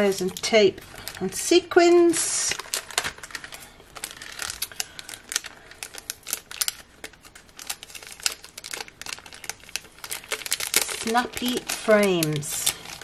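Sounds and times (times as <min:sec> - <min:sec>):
cardstock packaging crinkling: 0:00.0 - 0:13.0.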